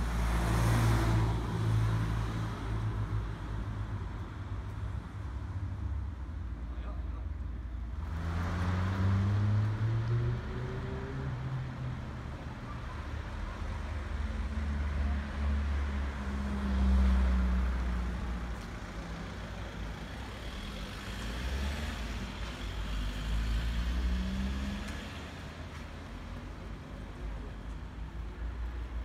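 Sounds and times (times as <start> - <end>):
vehicles driving past: 0.0 - 29.0.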